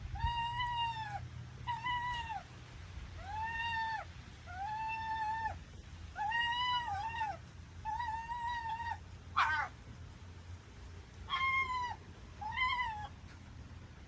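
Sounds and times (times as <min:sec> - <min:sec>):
fox whining: 0:00.0 - 0:02.5, 0:03.2 - 0:09.8, 0:11.2 - 0:13.5.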